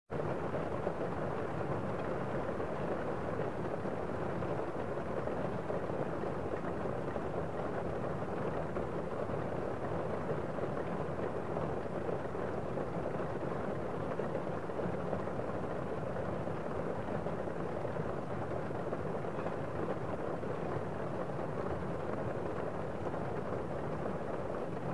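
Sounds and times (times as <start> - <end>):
muffled heavy rain: 0.2 - 24.9.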